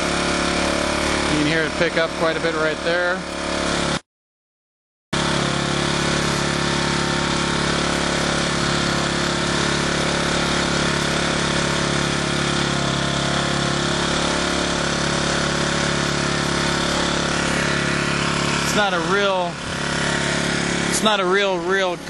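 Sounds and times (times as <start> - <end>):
generator engine running: 0.0 - 4.0, 5.2 - 22.0.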